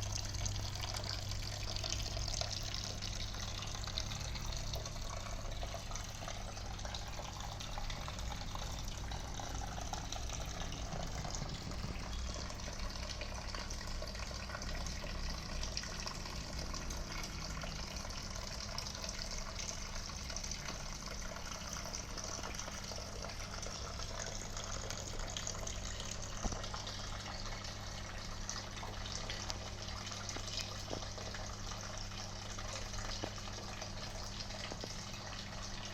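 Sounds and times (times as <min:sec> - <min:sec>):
water fountain splashing: 0:00.0 - 0:35.9.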